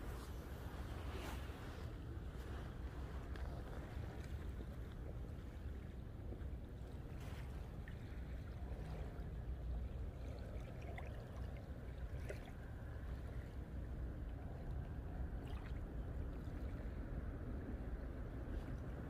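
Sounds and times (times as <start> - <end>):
low seaside rumble: 0.0 - 19.0.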